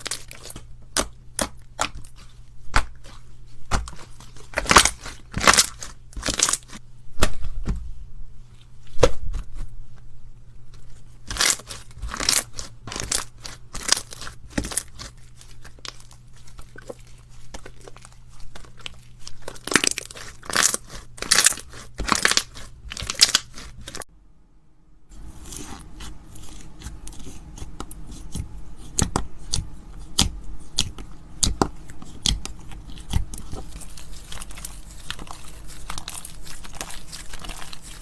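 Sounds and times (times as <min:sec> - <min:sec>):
crunchy slime crackling: 0:00.0 - 0:07.5, 0:10.7 - 0:24.1, 0:25.1 - 0:38.0
faint low hum: 0:00.0 - 0:38.0.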